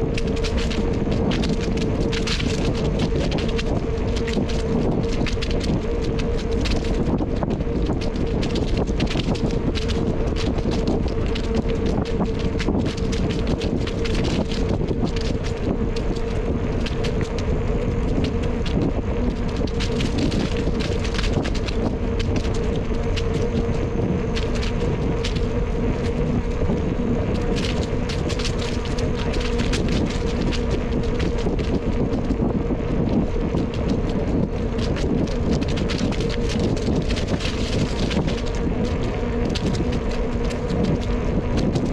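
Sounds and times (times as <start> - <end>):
bicycle clicks and rattles: 0.0 - 41.9
steady hum: 0.0 - 41.9
wind buffeting microphone: 0.0 - 41.9.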